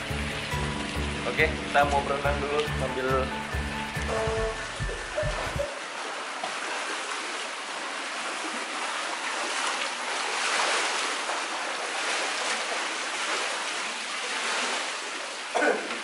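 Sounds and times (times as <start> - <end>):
water splashing from swimmers: 0.0 - 16.0.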